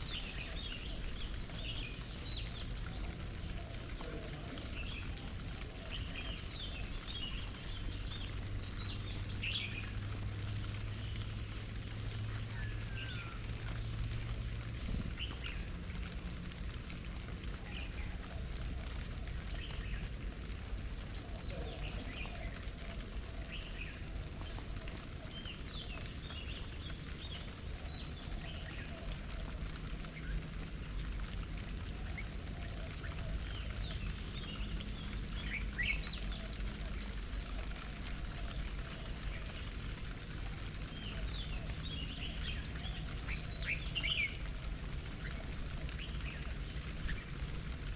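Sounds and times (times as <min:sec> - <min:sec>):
low background rumble: 0:00.0 - 0:47.9
small birds chirping: 0:00.0 - 0:47.9.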